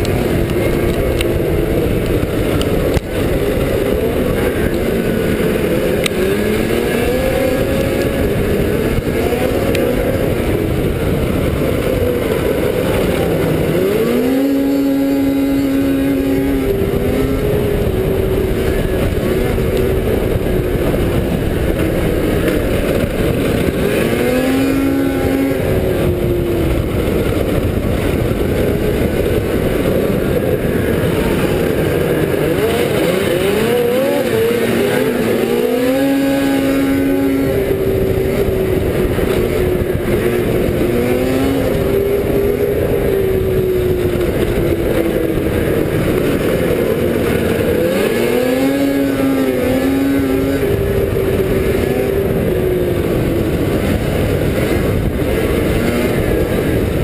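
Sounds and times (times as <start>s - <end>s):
snowmobile engine revving: 0.0s - 57.0s
wind and track noise: 0.0s - 57.0s.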